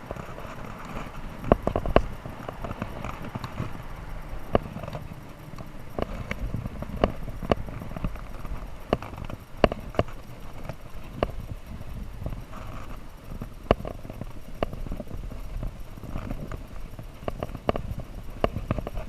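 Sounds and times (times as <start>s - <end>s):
steady low rumbling: 0.0s - 19.0s.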